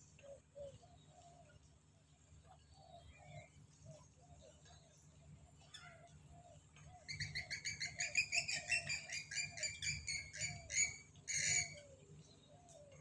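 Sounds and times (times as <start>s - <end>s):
faint lower bird calls: 0.0s - 1.6s, 2.4s - 13.0s.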